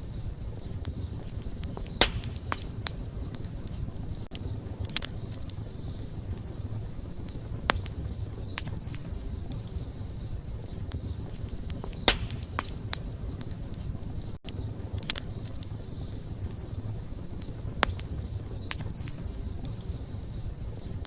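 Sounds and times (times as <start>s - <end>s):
campfire flame rumble: 0.0s - 21.0s
fire crackles and pops: 0.0s - 21.0s.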